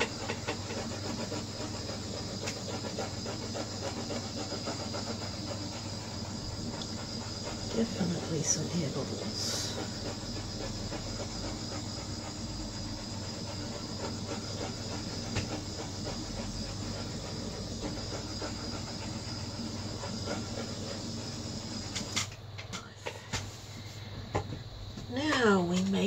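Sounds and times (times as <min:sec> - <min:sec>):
heat tool hissing: 0:00.0 - 0:24.2.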